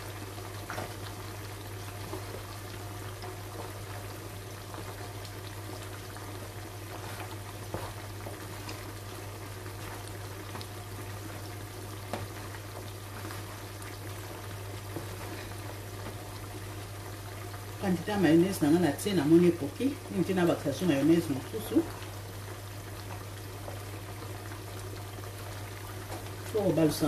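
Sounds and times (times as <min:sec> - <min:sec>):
meat sizzling in frying pan: 0:00.0 - 0:27.0.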